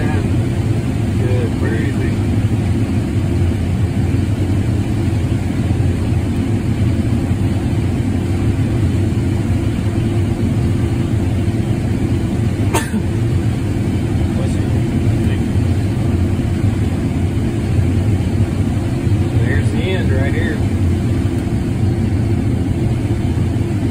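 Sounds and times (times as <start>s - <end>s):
combine harvester low drone: 0.0s - 23.9s.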